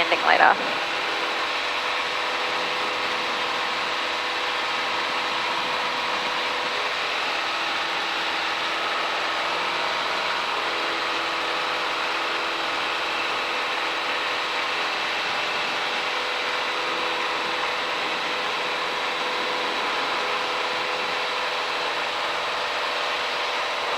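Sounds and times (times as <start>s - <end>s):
aircraft engine and propeller drone: 0.0s - 23.9s.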